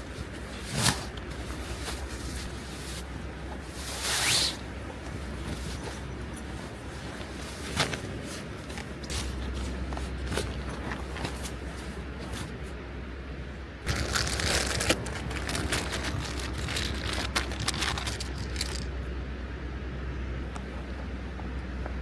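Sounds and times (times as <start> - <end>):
crinkly material rustling: 0.0 - 12.8, 13.8 - 19.0
steady low rumble: 0.0 - 22.0.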